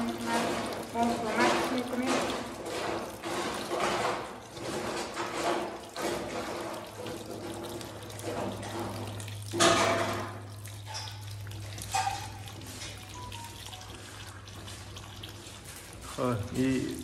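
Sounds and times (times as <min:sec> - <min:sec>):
tap water splashing into bowl: 0:00.0 - 0:17.0.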